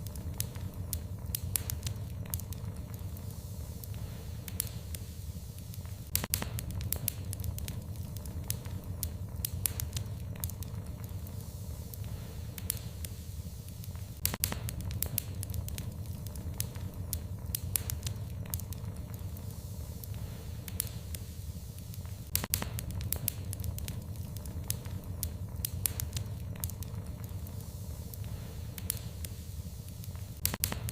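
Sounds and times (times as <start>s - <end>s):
low rumble of flames: 0.0s - 30.9s
wood fire crackling: 0.0s - 30.9s.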